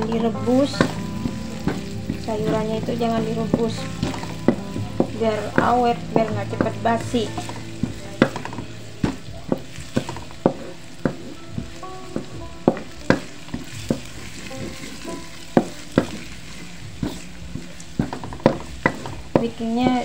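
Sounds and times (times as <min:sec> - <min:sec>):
steady sizzle: 0:00.0 - 0:20.0
wooden spatula knocking on wok: 0:00.0 - 0:20.0.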